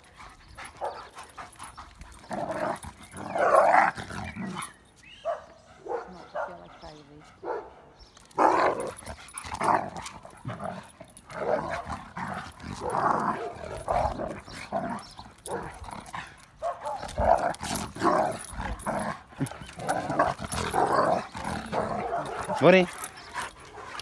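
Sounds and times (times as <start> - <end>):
dogs growling while play-fighting: 0.0 - 4.8, 8.2 - 24.0.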